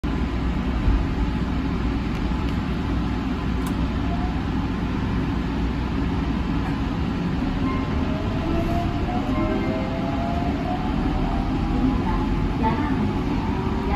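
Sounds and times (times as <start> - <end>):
train low hum and rumble: 0.0 - 13.9.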